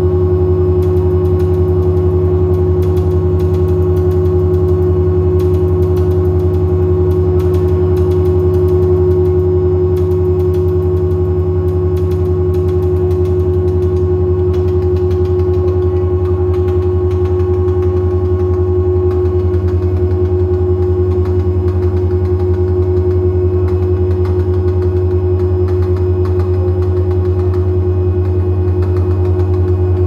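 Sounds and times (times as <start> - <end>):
deep pulsing bass hum: 0.0 - 30.0
droning electronic music: 0.0 - 30.0.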